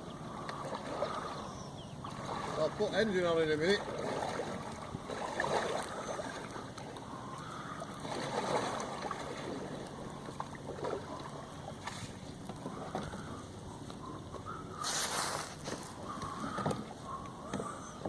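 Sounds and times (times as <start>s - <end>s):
water lapping against a kayak: 0.0s - 18.0s.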